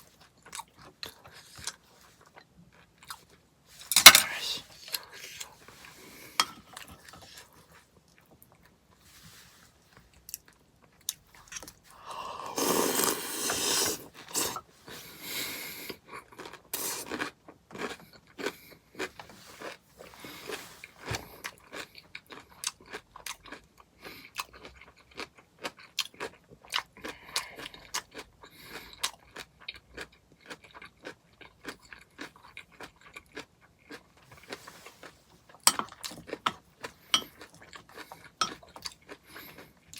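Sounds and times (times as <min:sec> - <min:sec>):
chewing and crunching granola: 0:00.0 - 0:03.9, 0:04.7 - 0:09.2, 0:09.8 - 0:12.0, 0:15.8 - 0:39.9.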